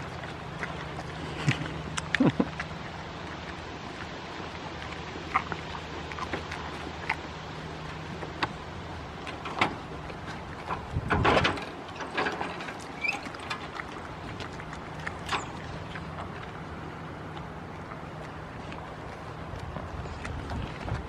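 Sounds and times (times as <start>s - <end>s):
goats chewing and crunching: 0.0s - 21.0s.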